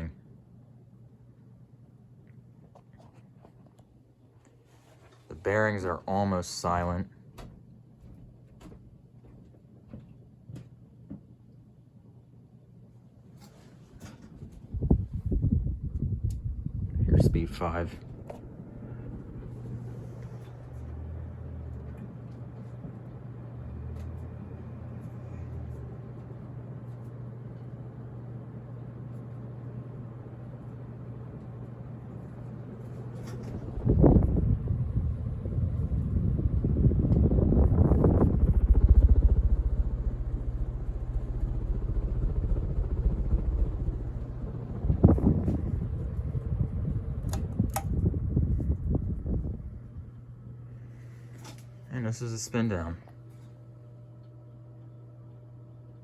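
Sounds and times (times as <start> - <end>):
ceiling fan motor hum: 0.0 - 56.0.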